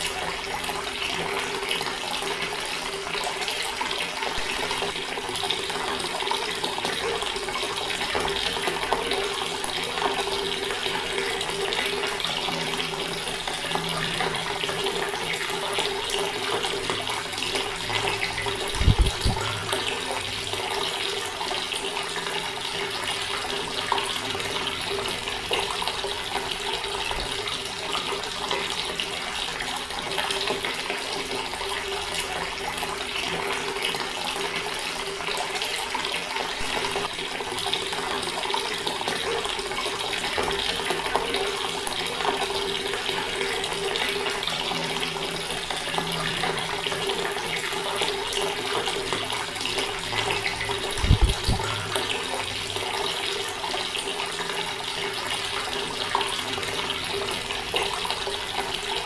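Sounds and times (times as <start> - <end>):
water running from a tap: 0.0 - 59.0.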